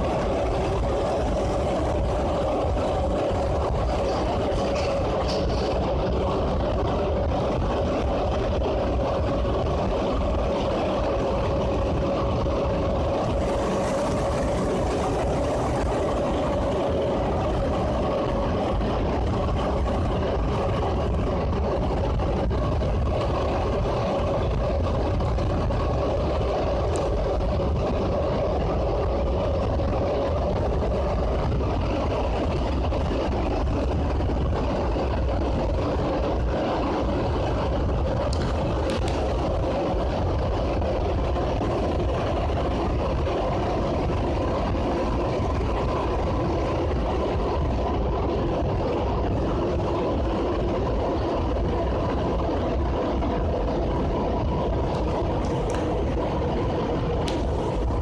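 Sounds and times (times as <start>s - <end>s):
train tyres rumbling in tunnel: 0.0s - 58.0s.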